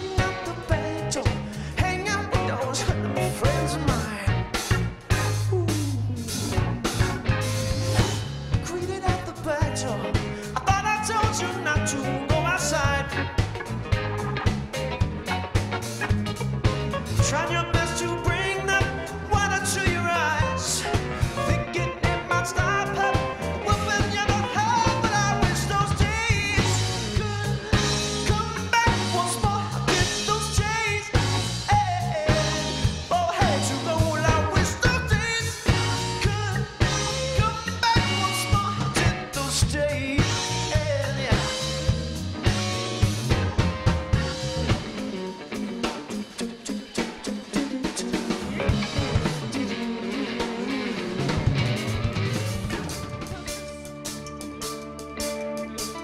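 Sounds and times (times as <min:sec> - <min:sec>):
bass guitar: 0:00.0 - 0:56.0
drums beating: 0:00.0 - 0:56.0
electric guitar: 0:00.0 - 0:56.0
keyboards: 0:00.0 - 0:56.0
live rock band playing: 0:00.0 - 0:56.0.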